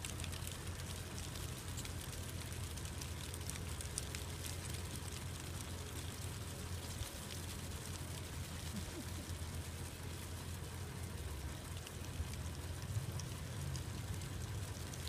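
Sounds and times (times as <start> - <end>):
sheep hooves on asphalt: 0.0 - 15.0.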